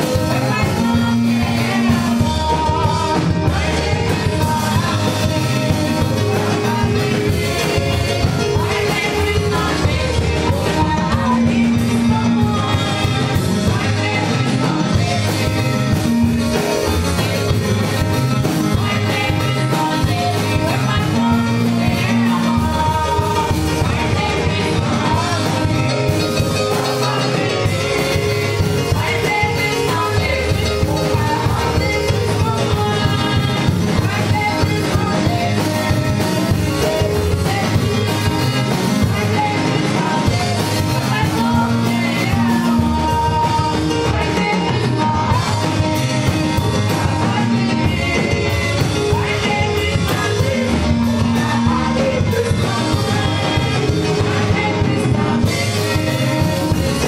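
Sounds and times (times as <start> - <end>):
instrumental accompaniment with beat: 0.0 - 57.0
men singing gospel: 0.0 - 57.0.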